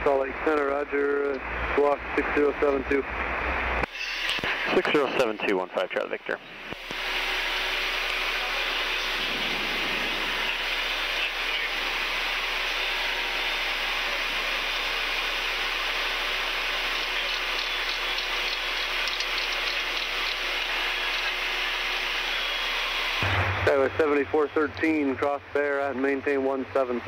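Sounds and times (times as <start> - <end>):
jet engines and airflow rushing: 0.0 - 25.6.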